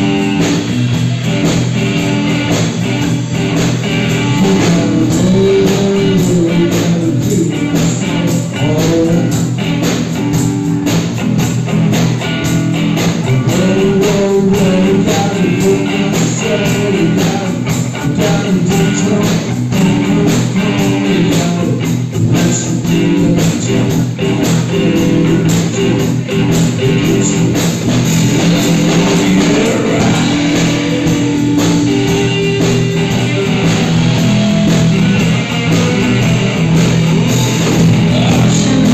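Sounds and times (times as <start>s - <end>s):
electric guitar lead bending pitch: 0.0s - 38.9s
live rock band playing: 0.0s - 38.9s.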